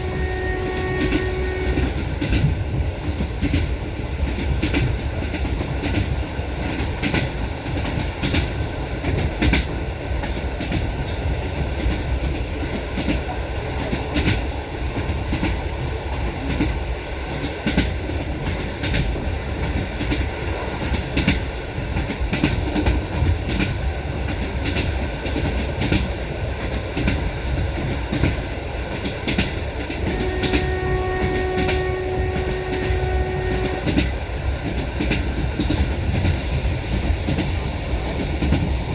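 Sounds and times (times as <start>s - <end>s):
train wheels clattering over rail joints: 0.3s - 38.9s.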